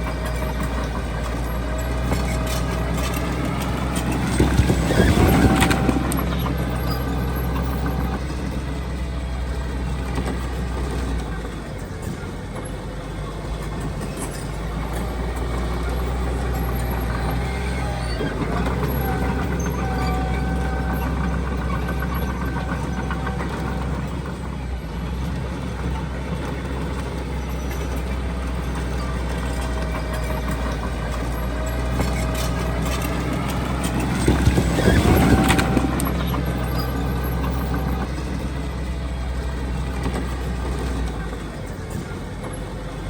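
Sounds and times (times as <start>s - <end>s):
diesel earthmoving machinery running: 0.0s - 43.0s.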